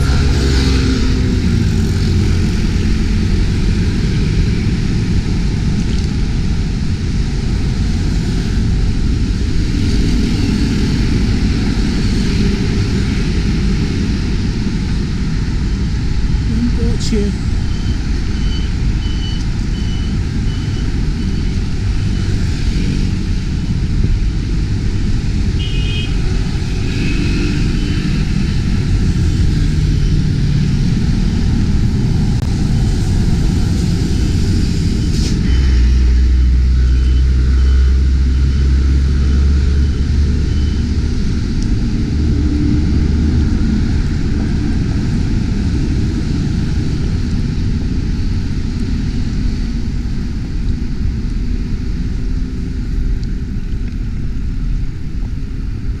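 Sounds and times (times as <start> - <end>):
low city rumble: 0.0 - 56.0.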